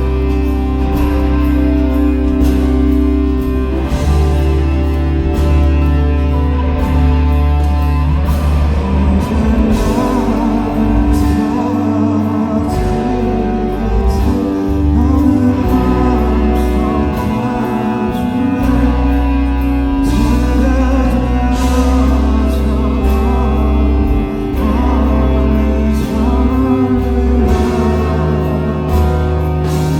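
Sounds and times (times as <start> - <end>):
bass line: 0.0 - 29.9
person singing: 0.0 - 29.9.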